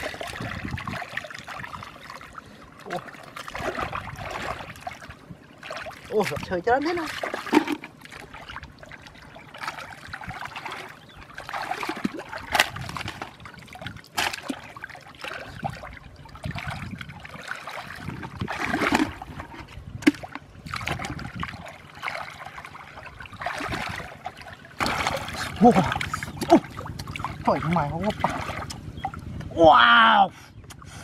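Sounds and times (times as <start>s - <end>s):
hands splashing in muddy water: 0.0s - 6.4s, 7.0s - 29.2s.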